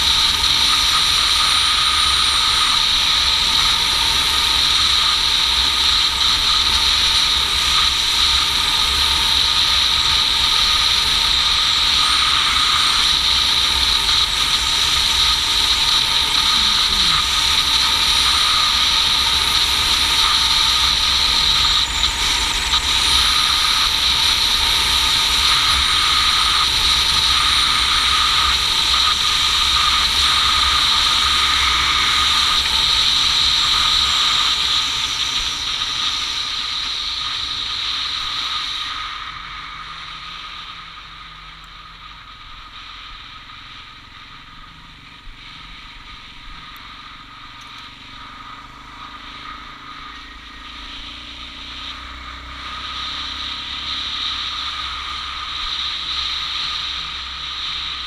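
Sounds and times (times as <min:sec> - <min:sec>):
high hiss or whine: 0:00.0 - 0:58.0
motorcycle engine drone: 0:00.0 - 0:58.0.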